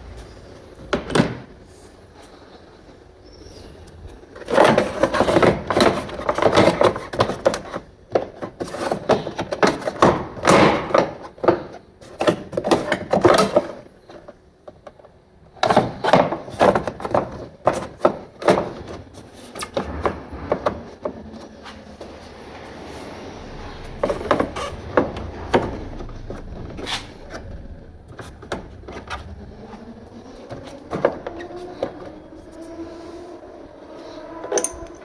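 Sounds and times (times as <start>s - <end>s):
clattering knocks and clicks: 4.4s - 32.6s.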